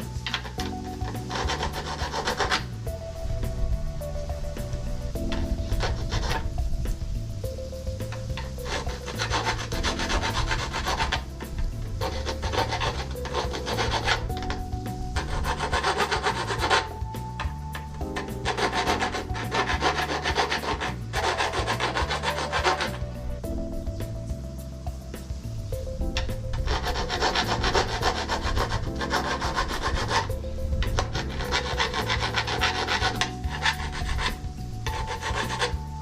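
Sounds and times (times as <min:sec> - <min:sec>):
file rasping on steel: 0:00.0 - 0:02.8, 0:05.2 - 0:06.6, 0:08.0 - 0:23.4, 0:26.1 - 0:36.0
background music: 0:00.0 - 0:36.0.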